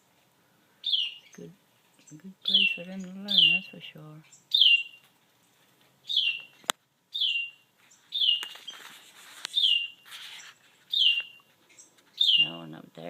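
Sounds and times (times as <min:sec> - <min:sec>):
soft rustling hiss: 0:00.0 - 0:13.0
songbird chirping: 0:00.0 - 0:13.0.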